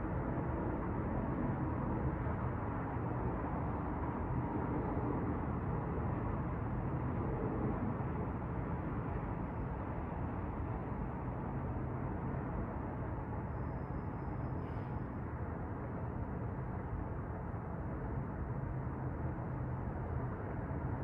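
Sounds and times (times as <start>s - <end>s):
city street traffic hum: 0.0s - 21.0s.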